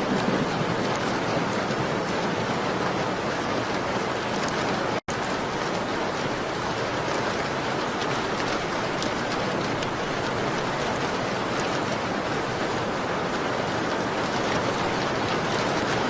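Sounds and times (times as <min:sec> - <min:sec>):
rain on a window: 0:00.0 - 0:16.0.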